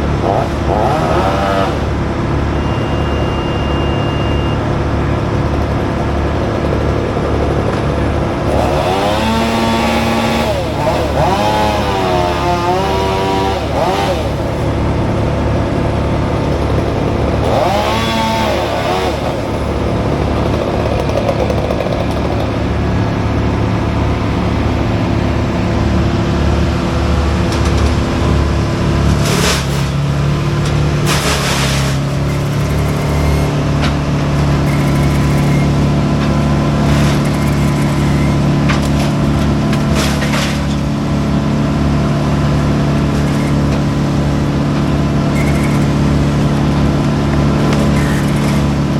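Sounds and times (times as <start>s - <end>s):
heavy equipment engine running: 0.0s - 48.9s.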